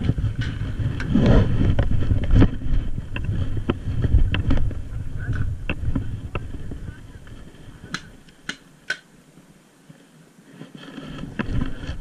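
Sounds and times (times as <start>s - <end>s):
wind rumbling on camera: 0.0s - 12.0s.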